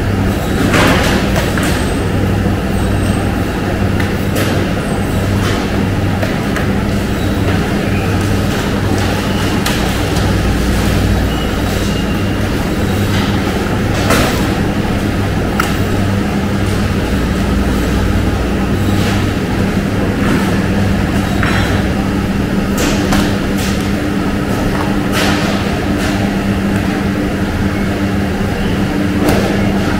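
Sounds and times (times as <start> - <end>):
processing machinery hum: 0.0 - 29.9.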